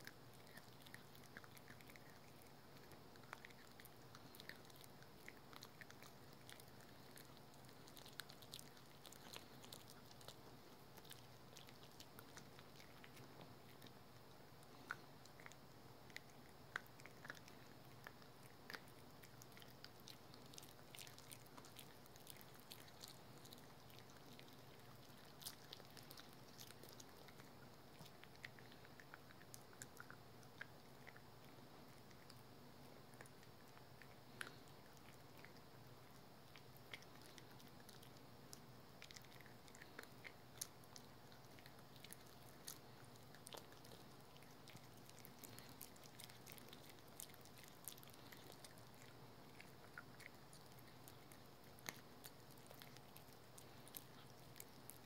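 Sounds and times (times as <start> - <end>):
dog chewing crunchy stick: 0.0 - 55.0
low room hum: 0.0 - 55.0.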